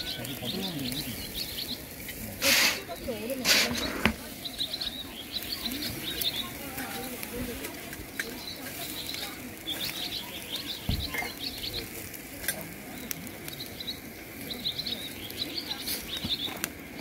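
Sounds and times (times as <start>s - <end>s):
birds chirping: 0.0s - 17.0s
fat popping on fire: 0.0s - 17.0s
meat sizzling on grill: 0.0s - 17.0s.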